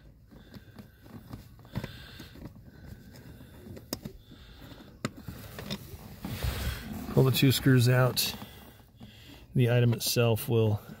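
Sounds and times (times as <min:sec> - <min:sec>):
faint handling noises: 0:00.0 - 0:11.0.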